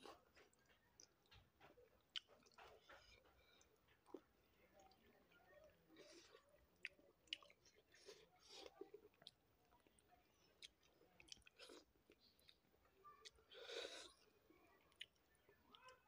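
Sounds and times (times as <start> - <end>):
man chewing food: 0.0 - 5.0, 5.9 - 14.3.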